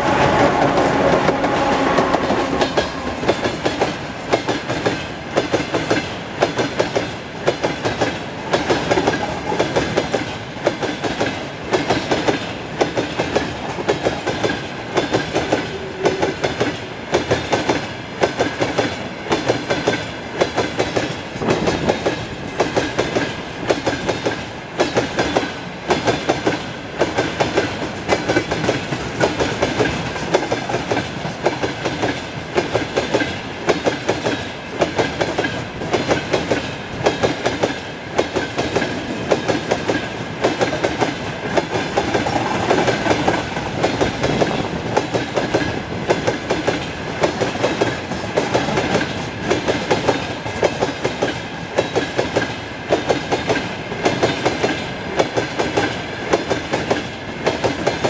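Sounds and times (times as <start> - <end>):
rolling rumble of train: 0.0 - 58.0
train wheels clattering over rail joints: 0.7 - 58.0.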